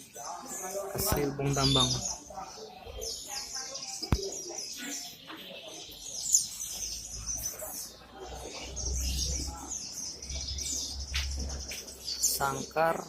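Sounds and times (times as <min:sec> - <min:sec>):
small birds twittering: 0:00.0 - 0:13.0.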